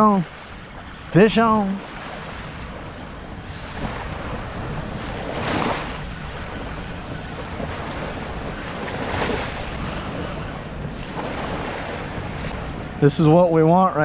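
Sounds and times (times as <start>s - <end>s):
ocean surf washing onto beach: 0.0s - 14.0s
wind buffeting microphone: 0.0s - 14.0s.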